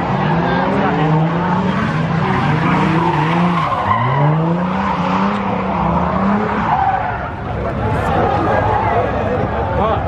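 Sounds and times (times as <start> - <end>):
car engine at high revs: 0.0 - 10.0
tyres spinning and squealing: 1.3 - 9.7.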